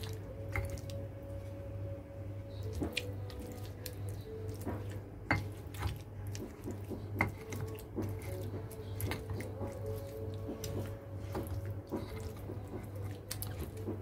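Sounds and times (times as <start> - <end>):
low hum: 0.0 - 14.0
wet squishing in mortar: 2.6 - 14.0.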